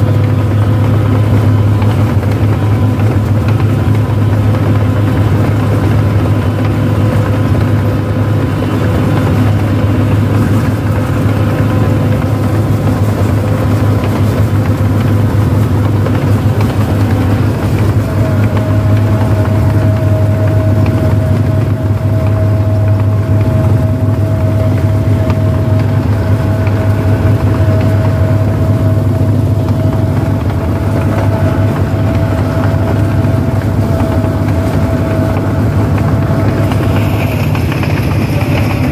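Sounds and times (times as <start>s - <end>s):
diesel engine low hum: 0.0s - 38.9s
high steady whine: 0.0s - 38.9s.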